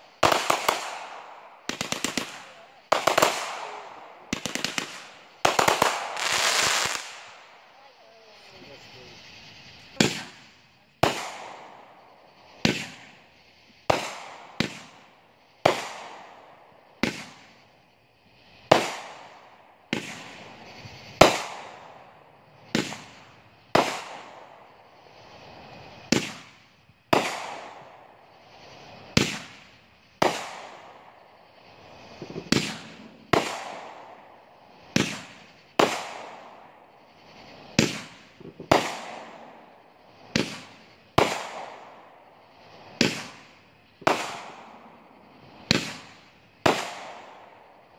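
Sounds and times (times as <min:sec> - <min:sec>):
fireworks bursting with echo: 0:00.0 - 0:47.9.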